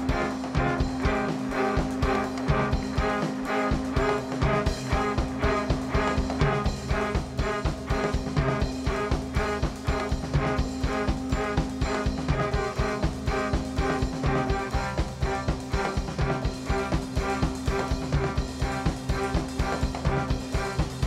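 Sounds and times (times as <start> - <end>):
bowed viola: 0.0 - 21.0
drum kit beat: 0.0 - 21.0.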